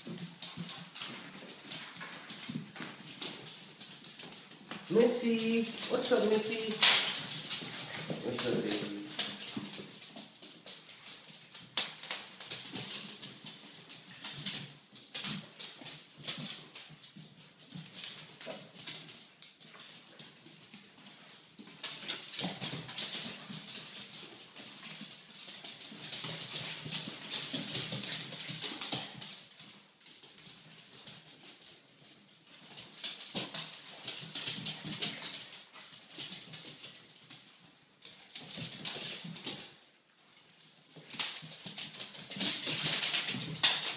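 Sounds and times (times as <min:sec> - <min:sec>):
dog claws clicking on floor: 0:00.0 - 0:43.9.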